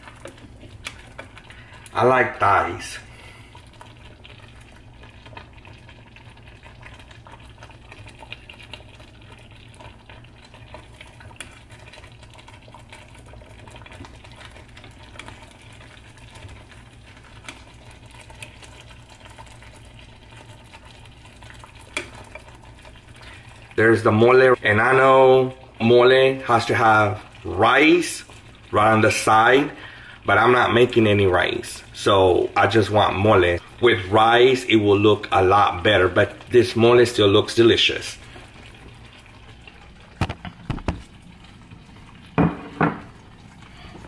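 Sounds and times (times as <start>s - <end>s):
sauce bubbling: 0.0s - 44.0s.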